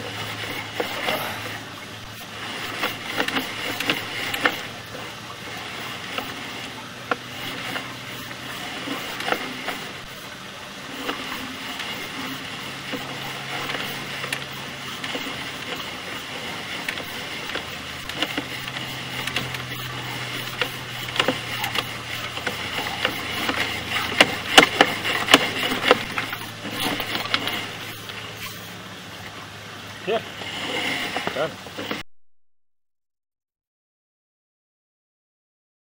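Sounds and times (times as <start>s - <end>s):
cable reel mechanical rattle: 0.0s - 32.0s
low hum: 0.0s - 32.1s.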